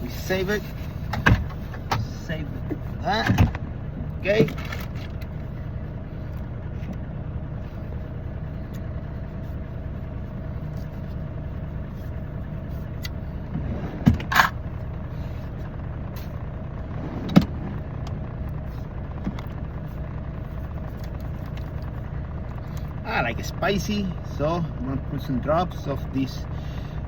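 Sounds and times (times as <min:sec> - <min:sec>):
diesel truck engine idling: 0:00.0 - 0:27.0.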